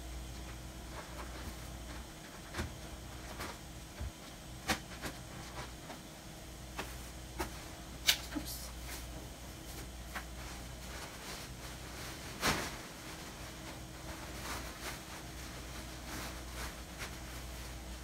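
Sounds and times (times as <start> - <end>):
room equipment hum: 0.0 - 18.0.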